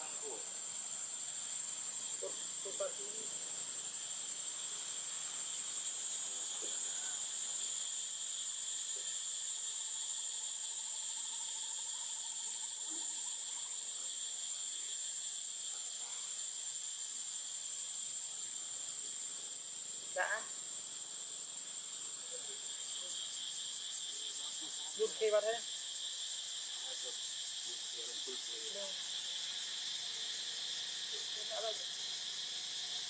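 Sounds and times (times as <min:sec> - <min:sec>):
insect chorus drone: 0:00.0 - 0:33.0.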